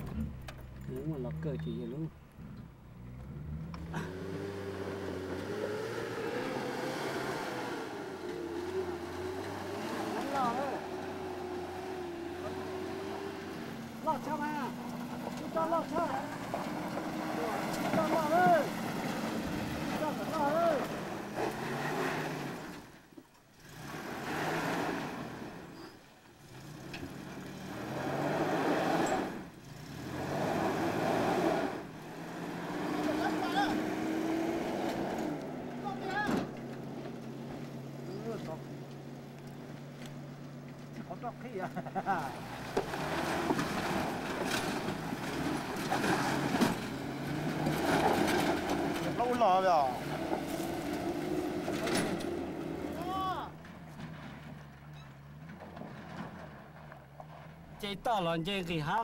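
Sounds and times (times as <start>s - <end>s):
truck engine droning under load: 0.0s - 58.2s.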